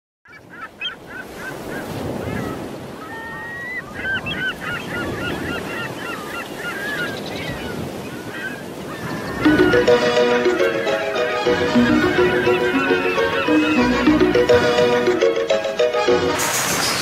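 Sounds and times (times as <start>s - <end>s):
waterbirds calling: 0.2s - 17.0s
wind: 0.2s - 17.0s
water at shoreline: 0.3s - 17.0s.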